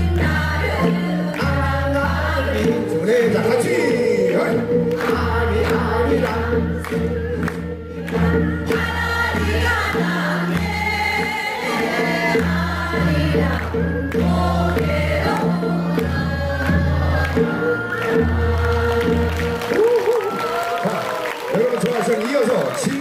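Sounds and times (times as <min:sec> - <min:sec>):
group singing into microphones: 0:00.0 - 0:20.8
instrumental accompaniment with bass: 0:00.0 - 0:21.5.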